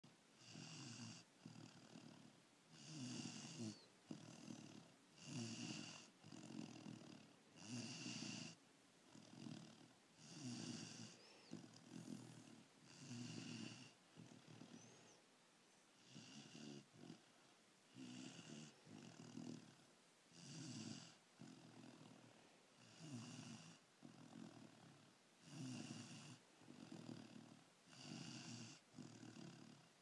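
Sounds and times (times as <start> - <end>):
puppy snoring softly: 0.3 - 15.2, 16.0 - 30.0.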